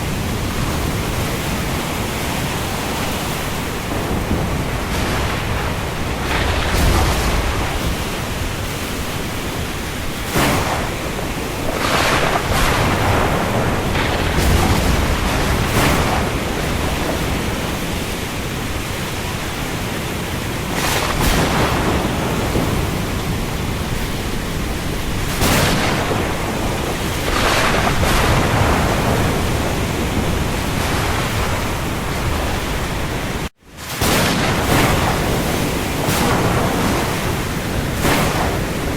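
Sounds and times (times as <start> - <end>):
rain on the sea: 0.0 - 38.9
waves: 0.0 - 38.9
wind gusts: 0.0 - 38.9.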